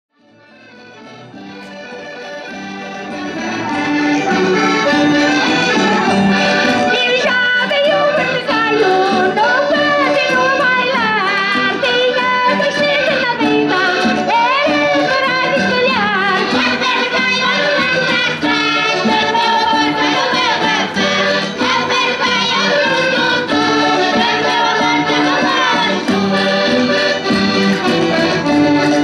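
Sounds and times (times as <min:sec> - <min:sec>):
accordion playing: 0:00.2 - 0:29.0
voices singing folk tune: 0:00.4 - 0:29.0.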